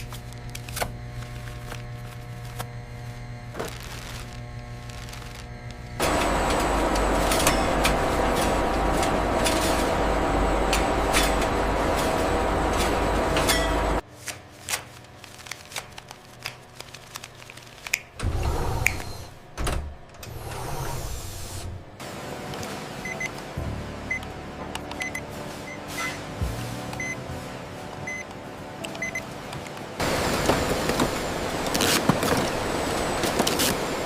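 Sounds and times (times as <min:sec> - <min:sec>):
factory machinery humming: 0:00.0 - 0:14.1, 0:17.9 - 0:34.0.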